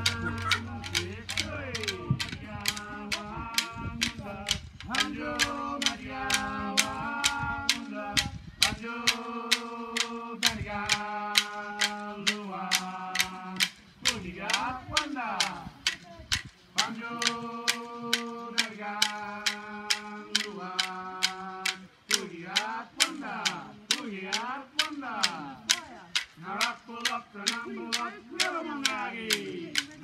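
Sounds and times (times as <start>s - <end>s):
person chanting: 0.0s - 30.0s
sharp clicking beat: 0.0s - 30.0s.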